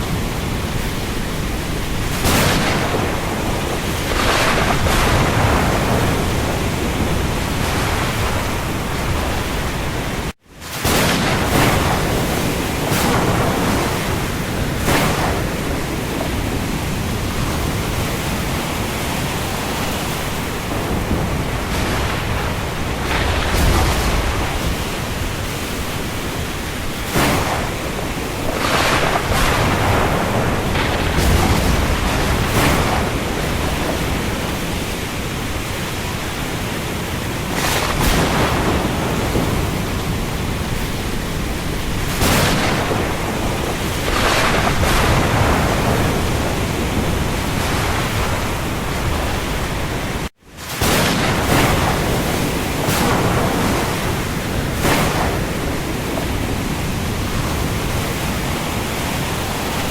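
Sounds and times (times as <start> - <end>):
heavy rain on the sea: 0.0 - 59.9
waves: 0.0 - 59.9.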